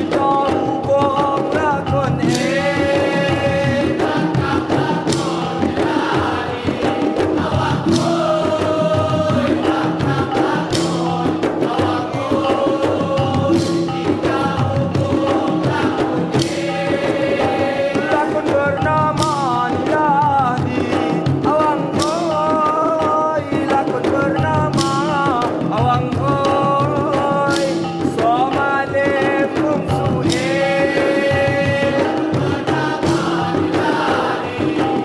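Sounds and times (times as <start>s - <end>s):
frame drums and barrel drums: 0.0s - 35.0s.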